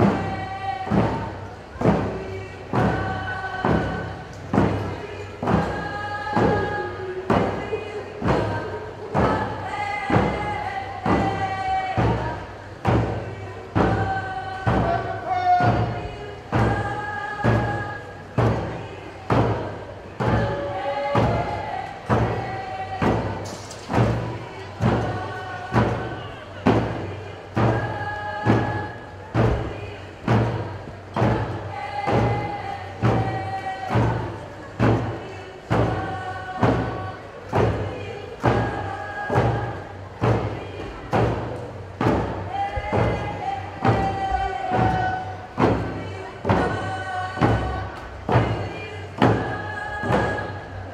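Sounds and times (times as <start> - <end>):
drum steady beat: 0.0 - 50.9
group of voices singing: 0.0 - 50.9.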